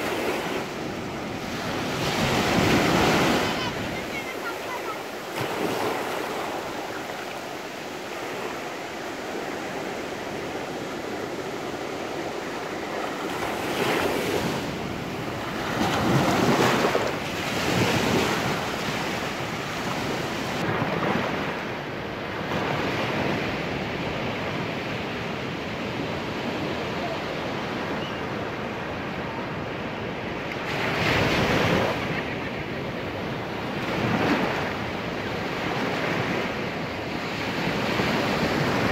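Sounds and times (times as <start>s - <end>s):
small waves breaking on beach: 0.0s - 38.9s.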